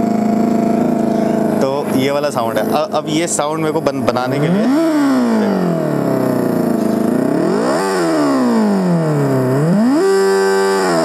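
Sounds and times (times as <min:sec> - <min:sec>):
simulated motorbike engine revving: 0:00.0 - 0:11.0.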